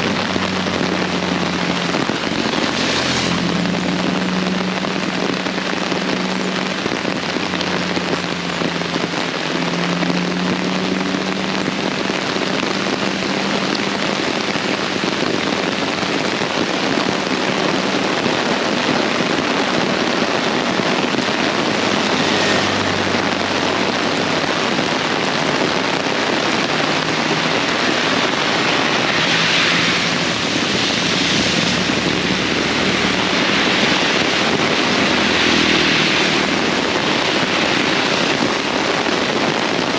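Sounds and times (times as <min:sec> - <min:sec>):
heavy rain pouring: 0:00.0 - 0:39.9
vehicle engine hum: 0:00.0 - 0:39.9.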